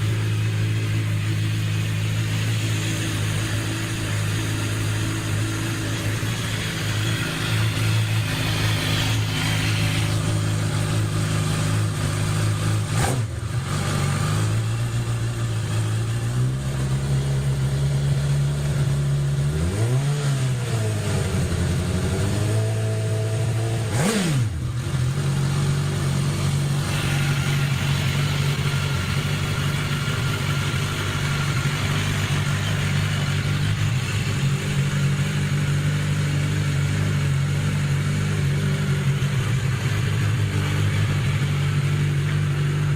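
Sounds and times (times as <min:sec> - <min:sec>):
motorcycle engine idling: 0:00.0 - 0:19.7, 0:24.5 - 0:42.9.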